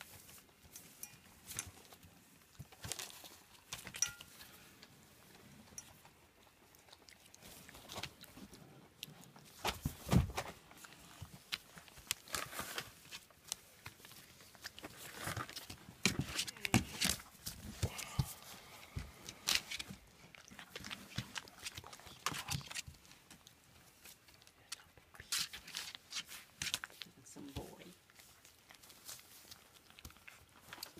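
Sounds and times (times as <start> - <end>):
puppies crunching kibble: 0.0 - 30.9.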